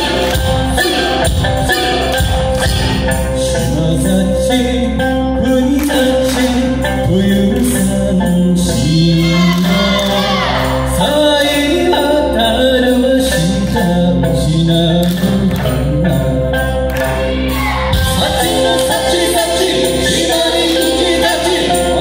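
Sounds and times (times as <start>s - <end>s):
jingling percussion beat: 0.0s - 4.5s, 5.1s - 22.0s
voices singing folk song: 0.0s - 22.0s.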